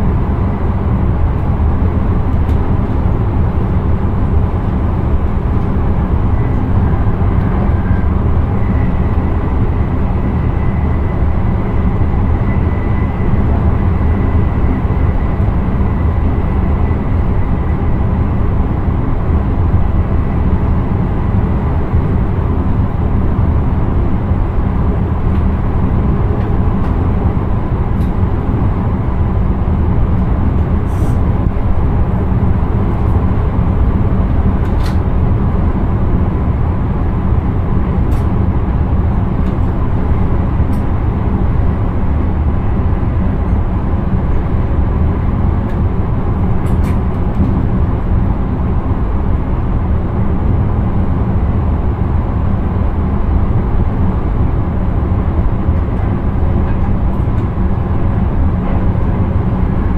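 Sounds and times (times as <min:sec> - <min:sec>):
train running gear rumbling: 0:00.0 - 0:59.9.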